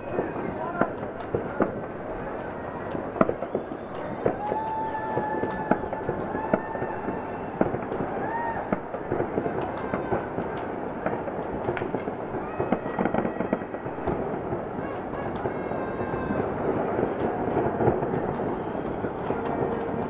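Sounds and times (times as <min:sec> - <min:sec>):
distant fireworks bangs and crackles: 0:00.0 - 0:20.0
sharp firework pops: 0:00.0 - 0:20.0.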